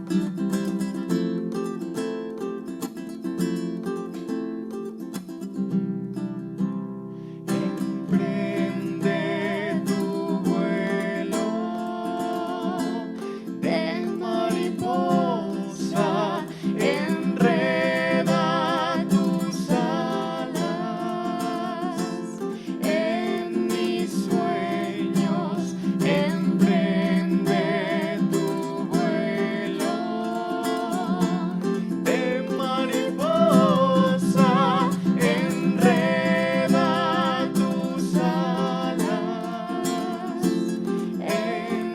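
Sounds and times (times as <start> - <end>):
acoustic guitar music: 0.0 - 41.9.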